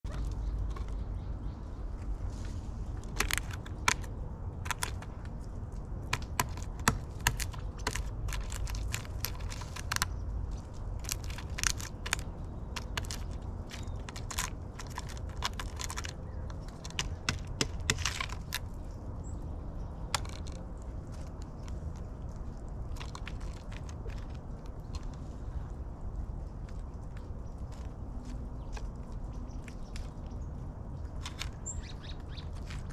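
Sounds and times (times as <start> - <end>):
bird pecking and cracking peanuts: 2.4 - 25.8, 26.4 - 32.9.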